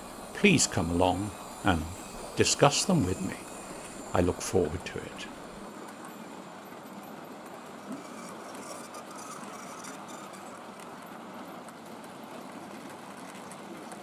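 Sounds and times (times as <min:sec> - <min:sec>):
model train wheels on rail: 0:00.0 - 0:06.2, 0:06.9 - 0:14.0.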